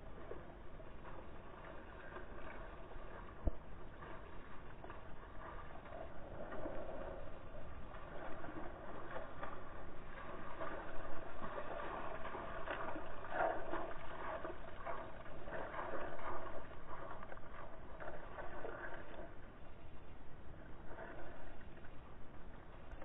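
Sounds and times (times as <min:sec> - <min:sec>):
dog splashing through water: 0:00.0 - 0:19.5.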